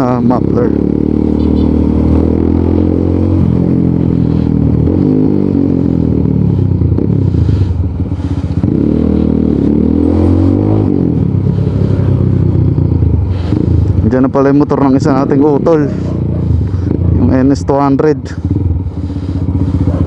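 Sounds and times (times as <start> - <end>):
motorcycle engine riding: 0.0 - 20.0.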